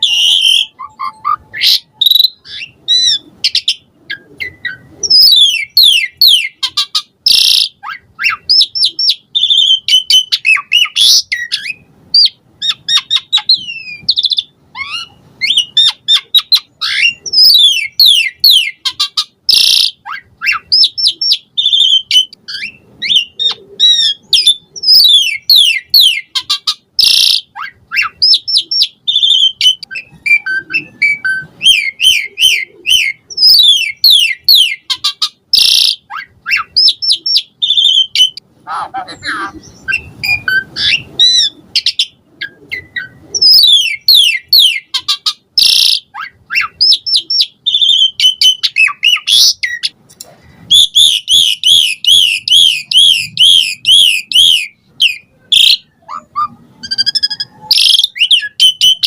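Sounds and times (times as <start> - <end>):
starling song with whistles and trills: 0.0 - 38.4, 39.1 - 50.0, 50.6 - 59.0.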